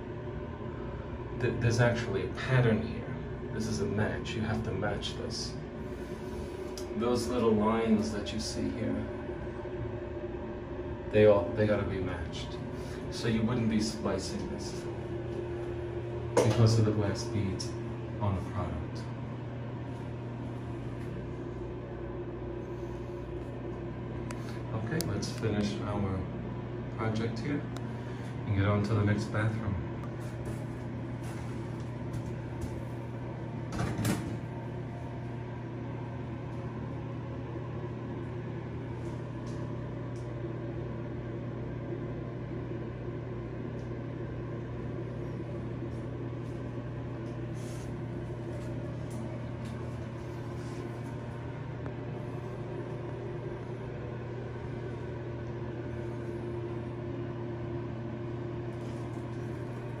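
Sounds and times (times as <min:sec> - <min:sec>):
low mechanical hum: 0:00.0 - 1:00.0.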